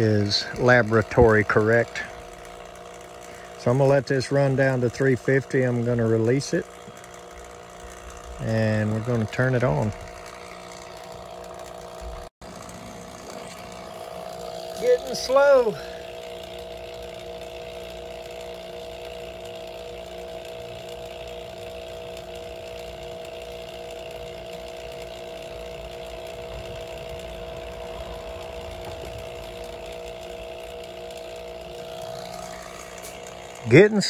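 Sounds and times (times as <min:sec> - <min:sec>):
vacuum pump humming: 0:00.0 - 0:34.0.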